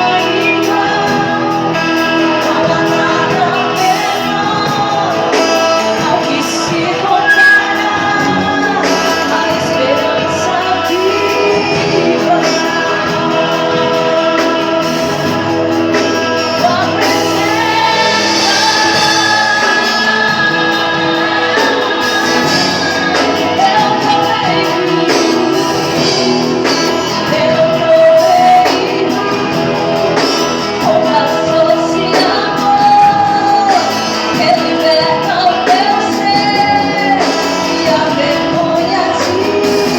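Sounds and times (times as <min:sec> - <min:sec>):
gospel singing: 0:00.0 - 0:39.9
sustained instrumental backing: 0:00.0 - 0:39.9.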